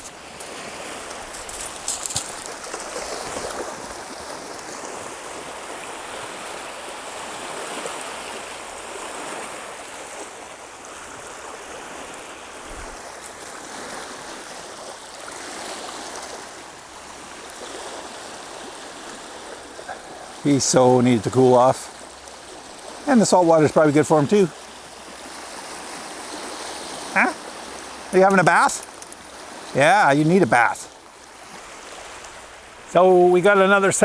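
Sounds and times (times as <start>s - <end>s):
small waves washing on shore: 0.0s - 34.0s.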